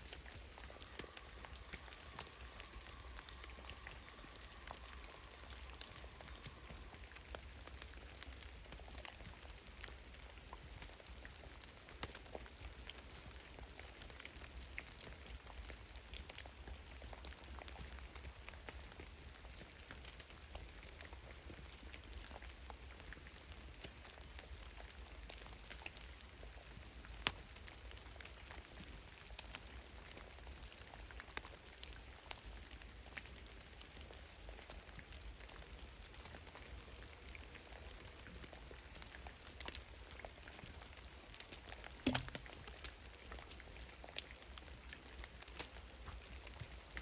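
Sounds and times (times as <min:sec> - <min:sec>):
patter of water drips: 0:00.0 - 0:47.0.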